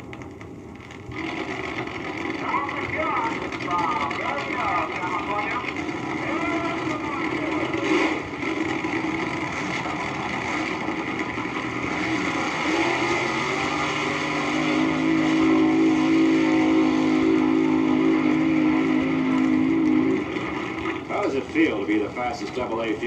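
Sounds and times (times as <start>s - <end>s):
dragster engine on vinyl record: 0.0s - 23.0s.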